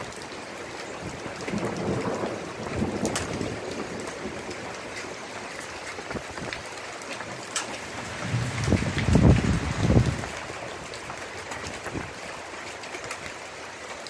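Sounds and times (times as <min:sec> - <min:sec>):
rain on wooden deck and roof: 0:00.0 - 0:14.0.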